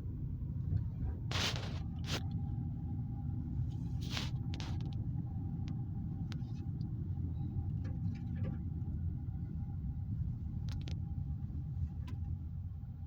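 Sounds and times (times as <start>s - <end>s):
vehicle rumbling on the move: 0.0s - 13.0s.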